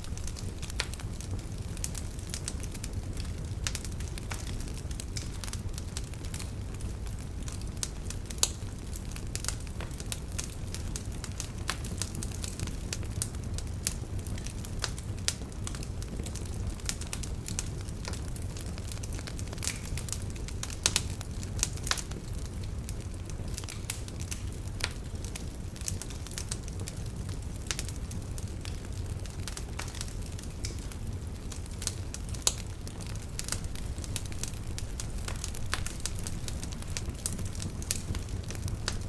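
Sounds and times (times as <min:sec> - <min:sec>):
logs crackling and popping: 0:00.0 - 0:39.0
low rumble of flames: 0:00.0 - 0:39.0.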